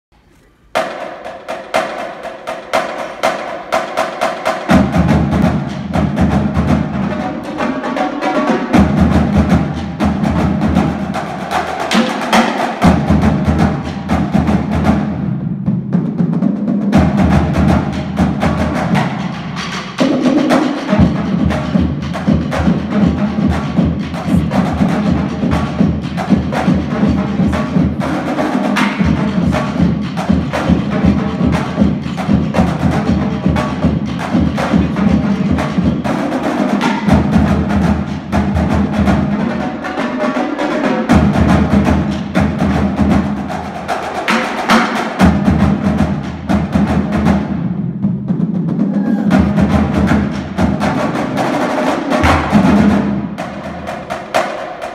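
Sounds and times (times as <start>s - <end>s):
tenor drums: 0.1s - 54.9s
snare drums: 0.4s - 54.9s
bass drums: 4.7s - 7.3s, 8.7s - 39.6s, 41.1s - 44.0s, 45.2s - 51.5s, 52.1s - 54.2s.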